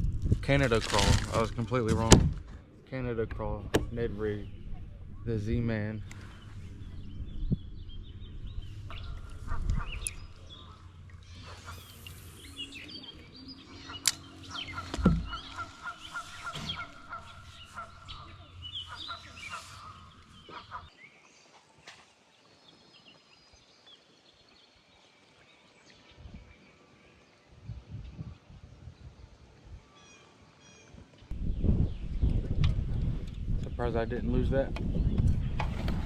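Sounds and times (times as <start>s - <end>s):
wind rumble on microphone: 0.0s - 20.9s, 26.0s - 26.8s, 27.4s - 29.9s, 30.9s - 36.0s
birds chirping: 0.5s - 36.0s.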